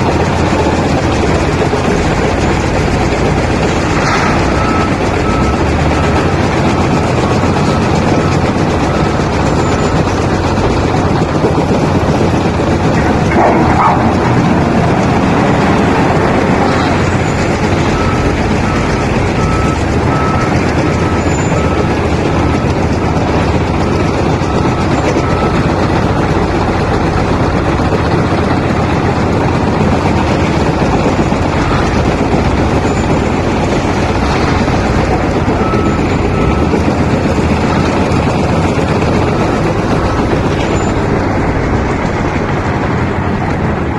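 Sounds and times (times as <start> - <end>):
diesel engine running: 0.0 - 43.9
reversing alarm beeping: 2.4 - 26.4, 29.9 - 41.8.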